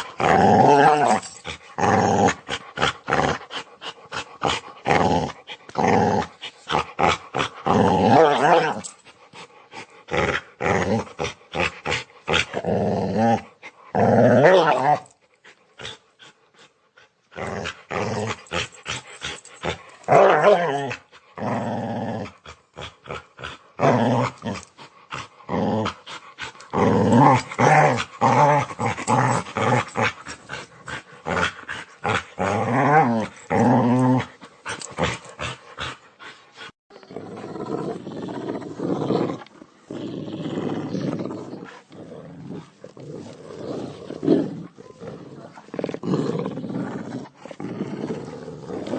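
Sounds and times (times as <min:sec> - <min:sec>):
dog growling and snarling: 0:00.0 - 0:48.9.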